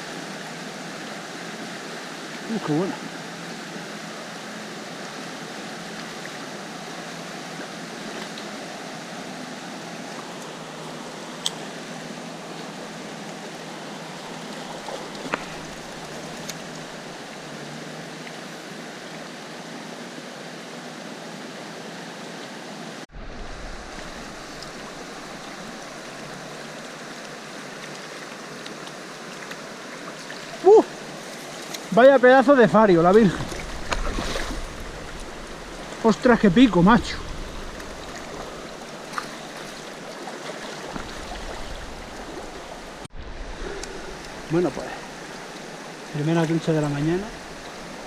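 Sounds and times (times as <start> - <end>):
river water rushing: 0.0 - 48.0.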